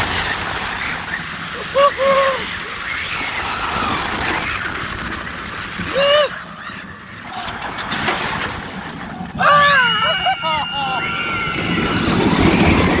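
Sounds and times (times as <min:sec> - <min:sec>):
roller coaster track rumble: 0:00.0 - 0:13.0
rushing wind: 0:00.0 - 0:13.0.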